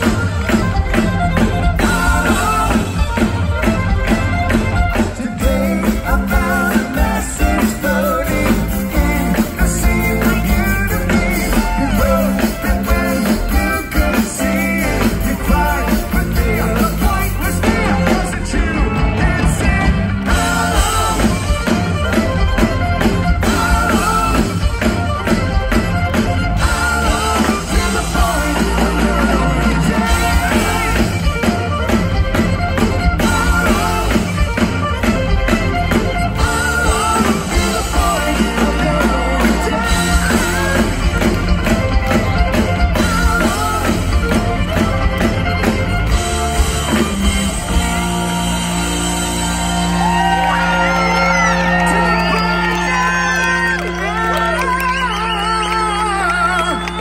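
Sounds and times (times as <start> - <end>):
drum kit: 0.0 - 52.6
violin: 0.0 - 55.0
live rock band playing: 0.0 - 57.0.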